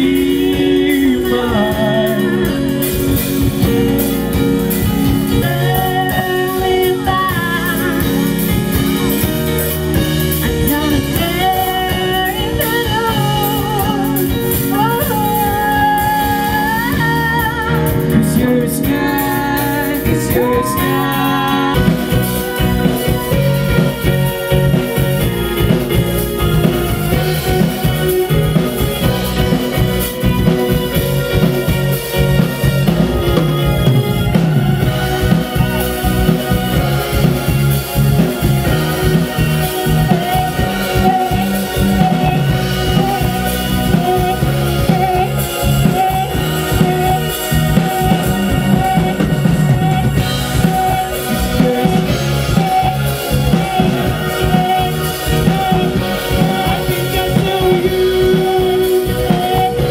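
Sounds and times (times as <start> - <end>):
bending lead guitar melody: 0.0 - 59.9
rock band playing live: 0.0 - 59.9.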